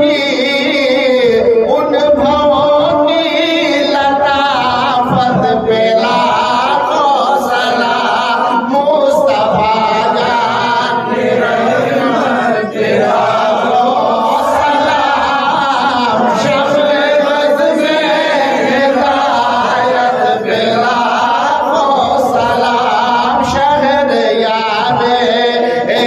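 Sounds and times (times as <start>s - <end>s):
man singing into a microphone: 0.0s - 12.8s, 13.4s - 26.0s.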